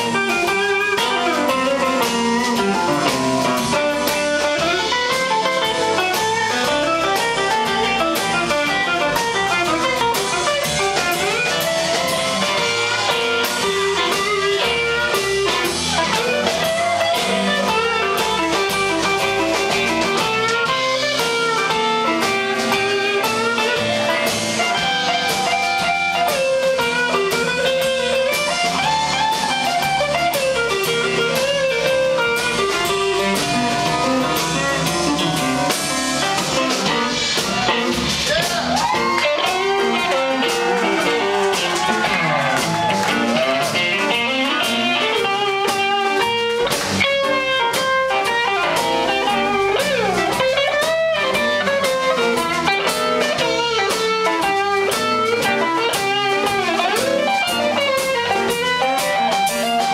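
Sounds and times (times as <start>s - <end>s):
electric guitar solo: 0.0s - 59.9s
live blues band playing: 0.0s - 59.9s.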